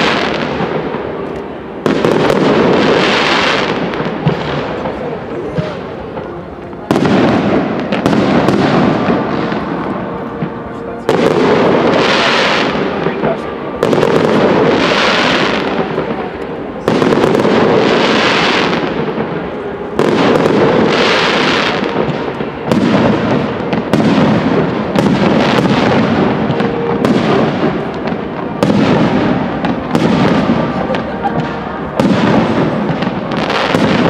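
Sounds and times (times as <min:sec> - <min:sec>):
crackling hiss of fireworks: 0:00.0 - 0:34.0.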